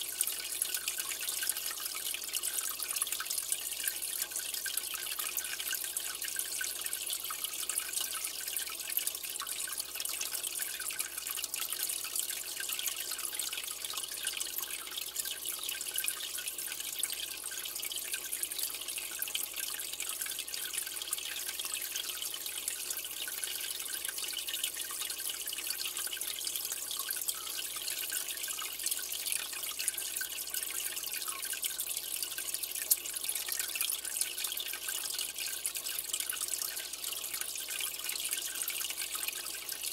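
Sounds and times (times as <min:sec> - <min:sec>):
aquarium water trickling: 0:00.0 - 0:39.9
tiny water drips: 0:00.0 - 0:39.9.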